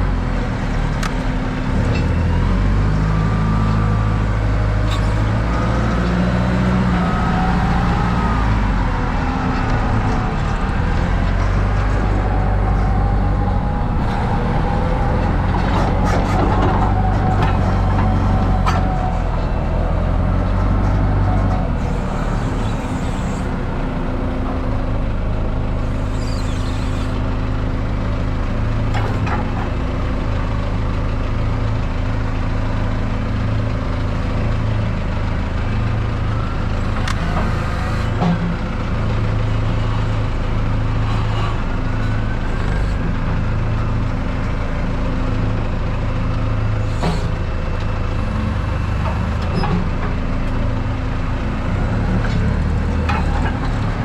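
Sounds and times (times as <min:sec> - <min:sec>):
truck engine humming: 0:00.0 - 0:54.0.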